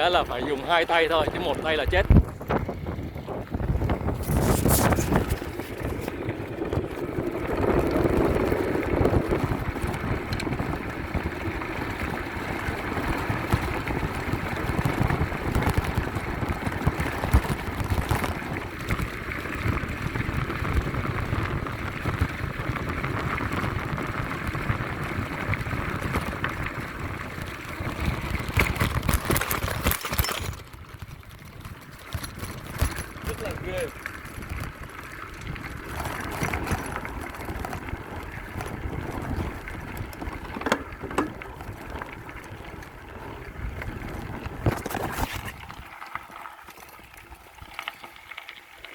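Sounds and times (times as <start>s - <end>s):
bicycle clattering: 0.0s - 48.0s
bicycle rolling on dirt track: 0.0s - 48.9s.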